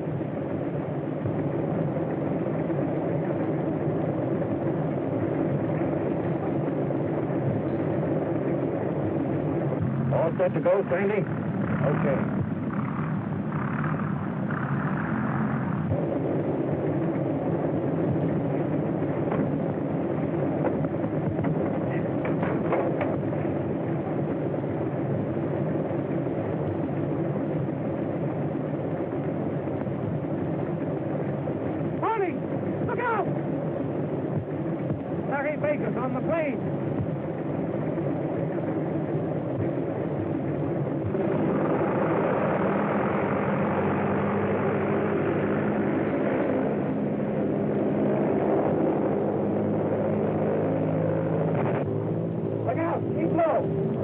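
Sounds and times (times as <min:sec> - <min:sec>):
aircraft engines idling: 0:00.0 - 0:54.0.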